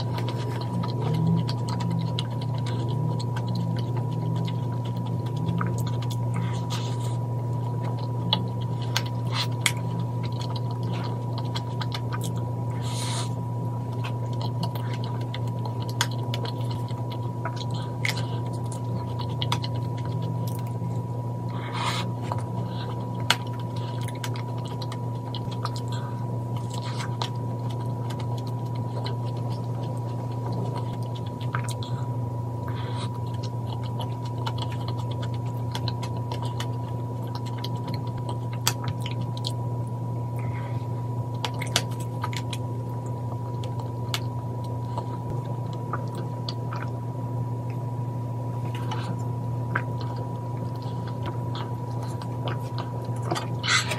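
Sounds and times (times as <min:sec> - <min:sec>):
chewing and biting: 0:00.0 - 0:47.0, 0:48.6 - 0:53.9
electrical hum: 0:00.0 - 0:53.9.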